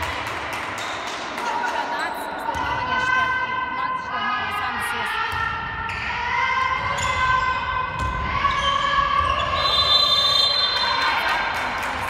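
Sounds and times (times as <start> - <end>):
handball bouncing on hall floor: 0.0 - 3.2, 5.2 - 12.0.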